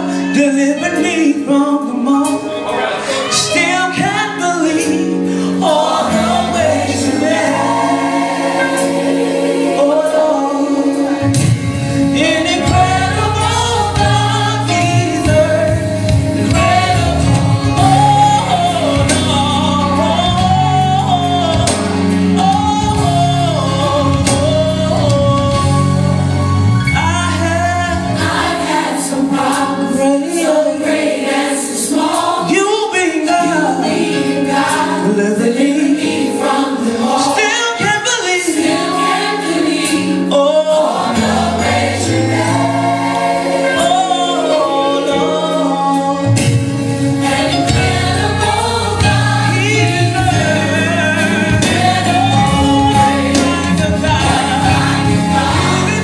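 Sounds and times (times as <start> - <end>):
choir singing gospel song: 0.0 - 56.0.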